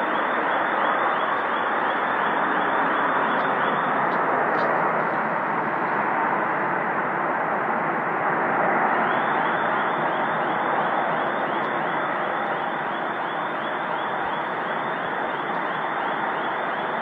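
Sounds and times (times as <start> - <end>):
loud continuous roar from the sky: 0.0 - 17.0.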